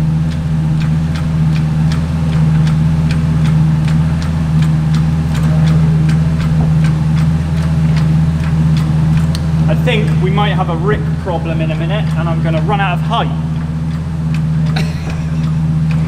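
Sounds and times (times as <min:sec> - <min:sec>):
engine running steadily: 0:00.0 - 0:16.0
even ticking: 0:00.0 - 0:16.0.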